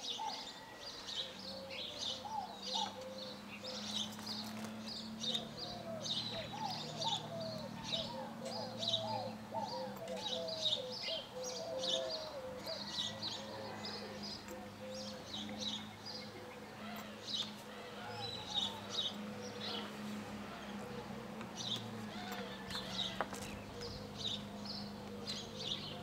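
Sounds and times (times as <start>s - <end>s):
low warbling bird calls: 0.0s - 26.0s
small birds chirping: 0.0s - 26.0s.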